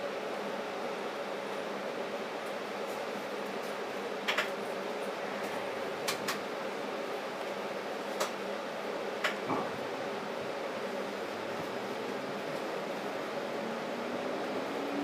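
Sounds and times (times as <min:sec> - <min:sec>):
streetcar hum: 0:00.0 - 0:15.0.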